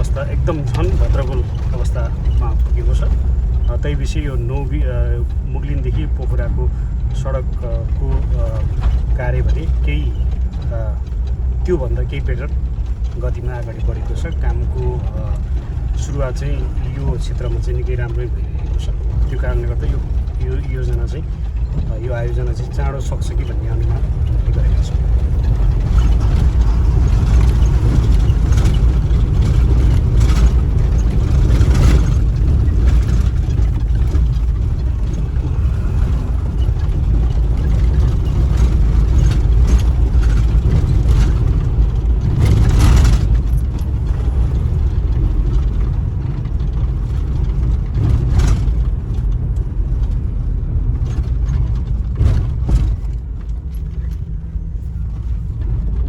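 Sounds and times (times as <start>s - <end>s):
sharp knocks and rattles: 0.0s - 56.0s
vehicle engine and tyres rumbling: 0.0s - 56.0s.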